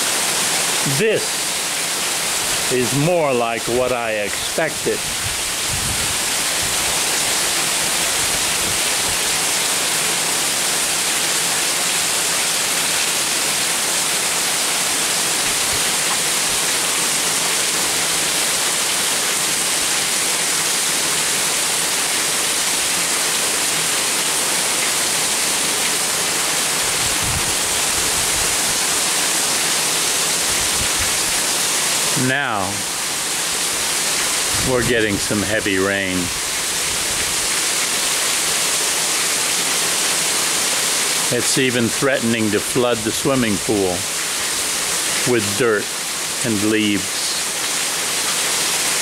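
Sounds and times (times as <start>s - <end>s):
heavy rain hissing: 0.0s - 49.0s.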